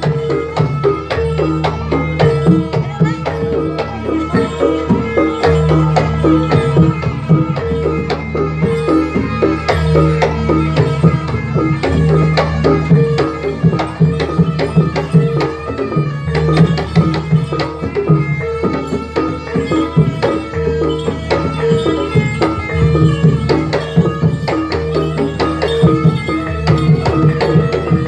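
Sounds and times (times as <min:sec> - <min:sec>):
held pitched notes: 0:00.0 - 0:28.0.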